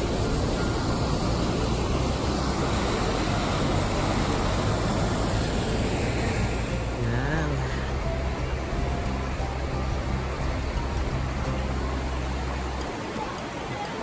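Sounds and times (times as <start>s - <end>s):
creek rushing over rocks: 0.0s - 14.0s.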